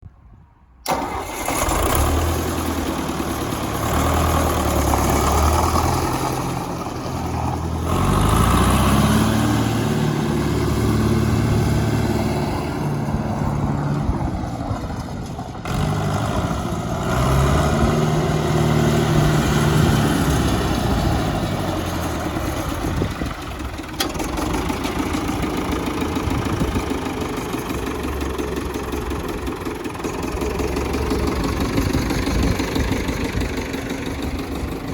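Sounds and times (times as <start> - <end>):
diesel tractor engine running: 0.8 - 34.9.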